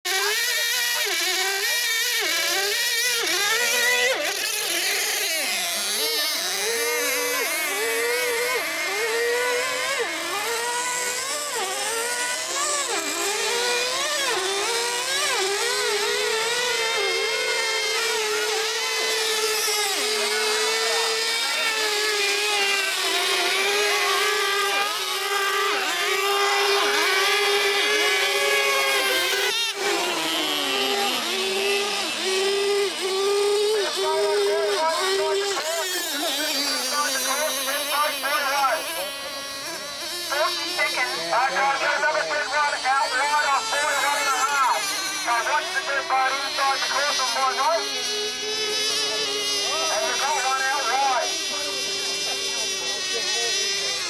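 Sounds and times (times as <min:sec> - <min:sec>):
model boat engines whining: 0:00.1 - 0:54.0.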